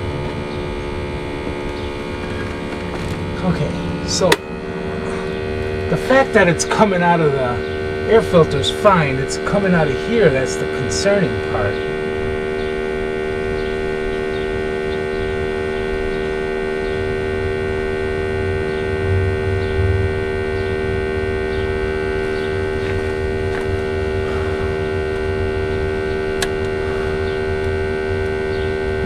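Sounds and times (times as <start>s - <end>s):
electric pump humming: 0.0s - 29.0s.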